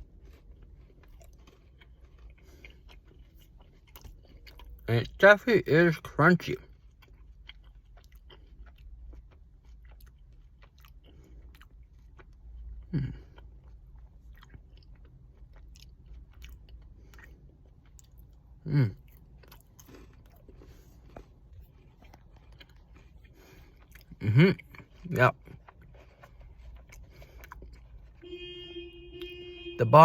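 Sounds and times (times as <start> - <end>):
person chewing crunchy food: 0.0 - 4.9, 6.4 - 28.3.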